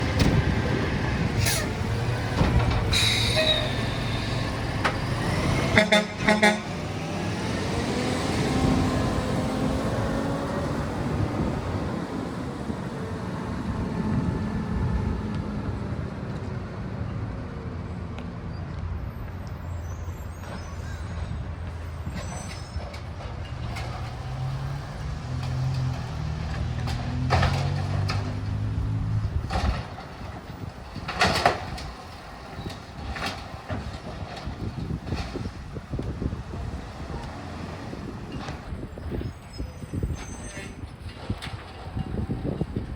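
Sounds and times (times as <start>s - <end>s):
garbage truck engine running: 0.0s - 16.9s, 21.2s - 42.9s.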